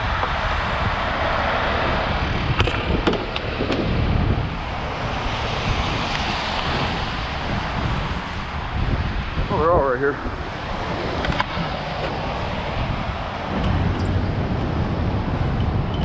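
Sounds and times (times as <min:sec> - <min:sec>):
freeway traffic: 0:00.0 - 0:16.0
wind buffeting microphone: 0:00.0 - 0:16.0.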